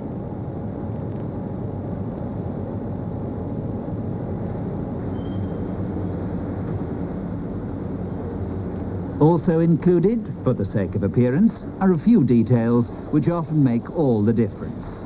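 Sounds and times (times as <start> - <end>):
factory machinery rumbling: 0.0 - 15.0.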